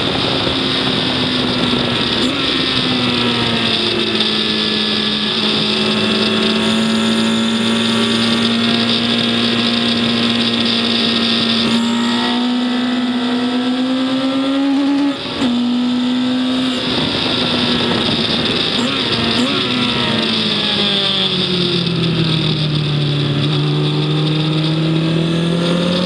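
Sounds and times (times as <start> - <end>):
race engine revving: 0.0 - 26.0.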